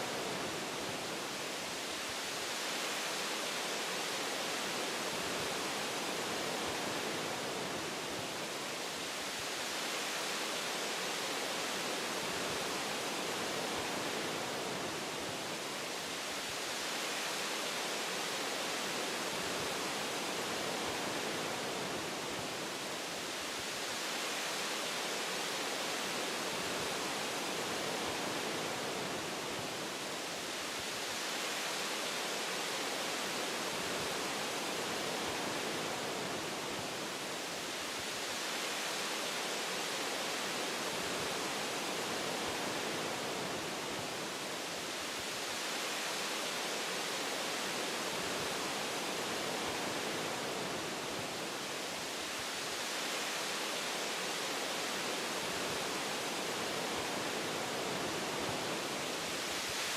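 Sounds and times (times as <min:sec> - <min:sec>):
wind through tree branches: 0:00.0 - 0:59.9.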